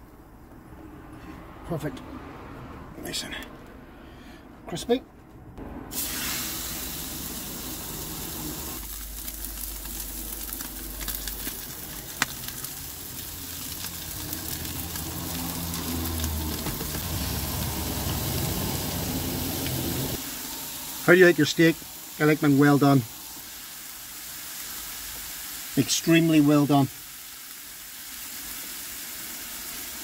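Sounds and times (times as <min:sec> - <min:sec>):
steak sizzling in a frying pan: 0:06.0 - 0:30.0.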